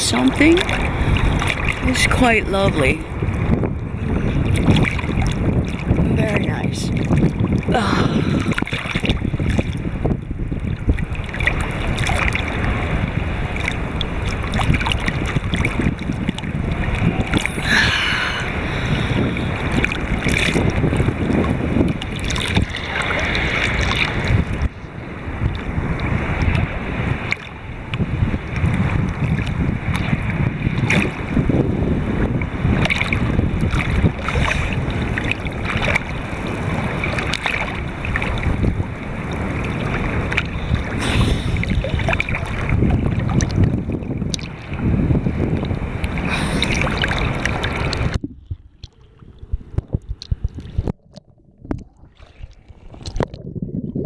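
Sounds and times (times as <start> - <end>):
seawater sloshing and splashing: 0.0 - 53.6
wind on microphone: 0.0 - 54.0.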